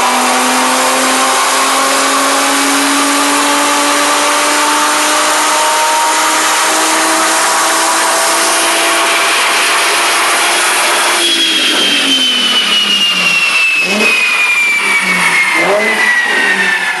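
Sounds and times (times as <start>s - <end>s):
car engine and exhaust revving: 0.0s - 17.0s.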